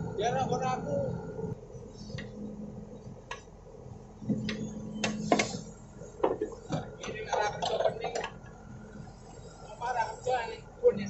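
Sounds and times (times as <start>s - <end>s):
backhoe engine hum: 0.0s - 11.0s.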